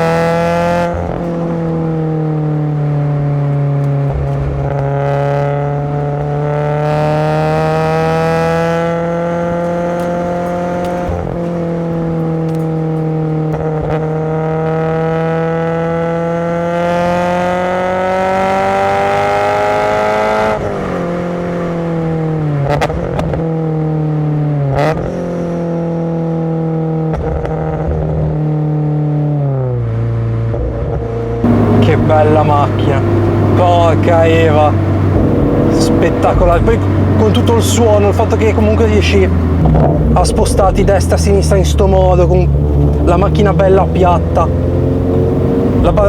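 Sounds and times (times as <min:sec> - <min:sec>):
engine throttle blips: 0:00.0 - 0:26.4, 0:29.6 - 0:46.0
car engine revving: 0:00.0 - 0:46.0.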